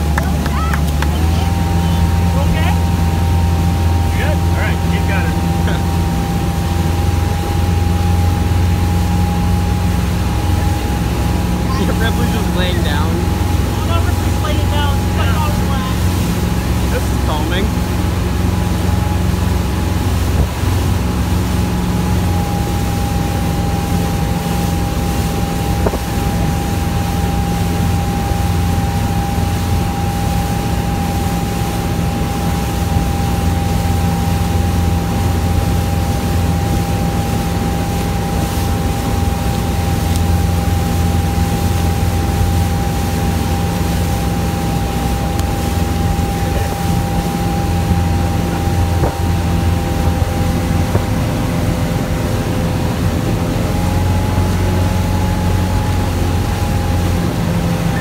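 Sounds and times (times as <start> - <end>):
churning wake water: 0.0 - 58.0
motorboat engine running: 0.0 - 58.0
thin whine: 0.1 - 58.0.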